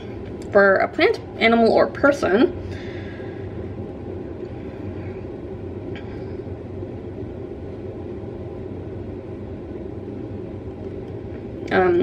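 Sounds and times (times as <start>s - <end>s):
faint low hum: 0.0s - 12.0s
low background rumble: 0.0s - 12.0s.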